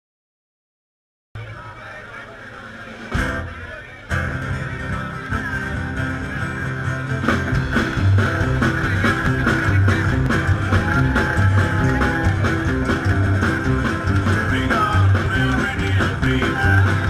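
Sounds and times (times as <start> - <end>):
rock and roll band playing: 2.7 - 17.0.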